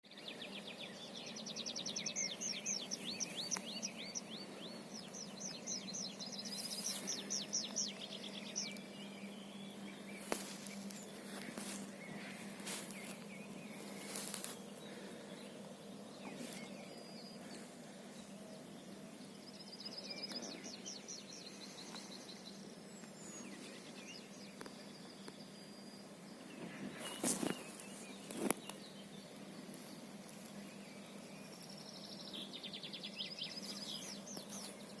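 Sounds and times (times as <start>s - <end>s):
songbirds trilling: 0.0s - 35.0s
steady low hum: 0.2s - 35.0s.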